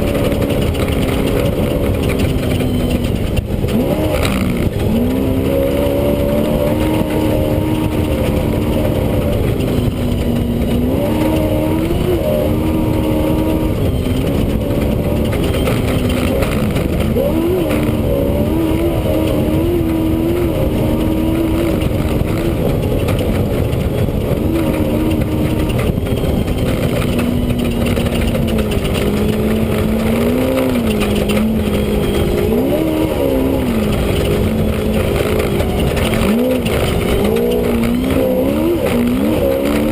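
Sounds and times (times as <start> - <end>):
race vehicle engine running hard: 0.0 - 39.9.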